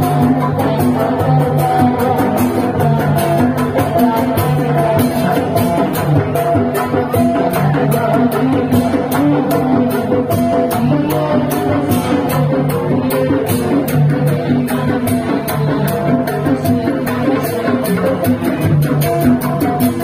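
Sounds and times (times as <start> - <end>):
drums beating: 0.0 - 20.0.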